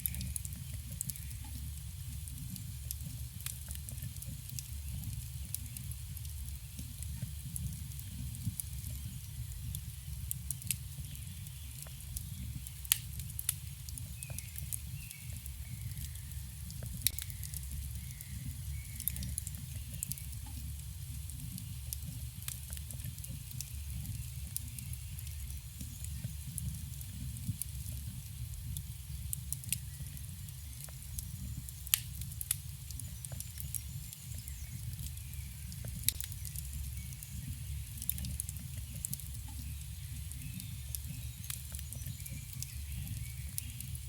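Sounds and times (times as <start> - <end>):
burning wood crackling and popping: 0.0 - 44.0.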